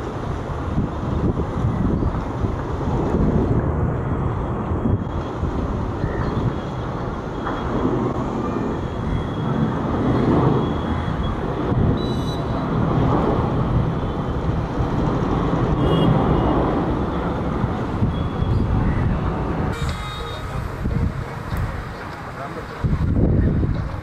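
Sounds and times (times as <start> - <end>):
jet engines deep rumble: 0.0 - 24.0.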